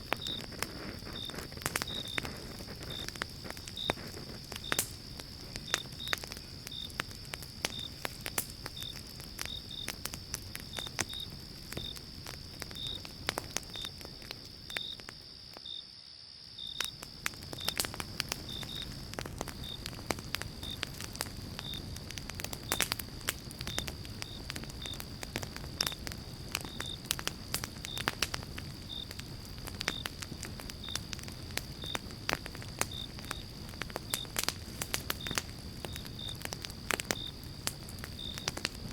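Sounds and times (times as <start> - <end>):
low rumble of flames: 0.0 - 15.6, 16.5 - 38.9
wood fire crackling and popping: 0.0 - 15.7, 16.4 - 38.9.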